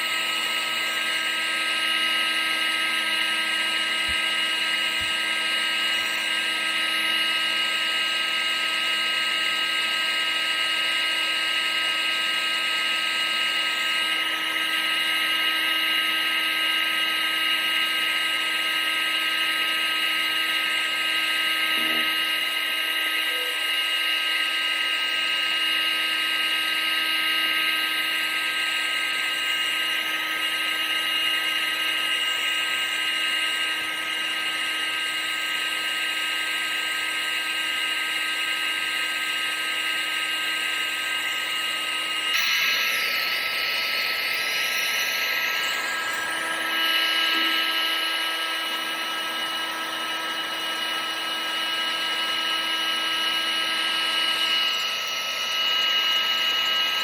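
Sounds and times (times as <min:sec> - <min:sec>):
vacuum cleaner motor running: 0:00.0 - 0:57.0.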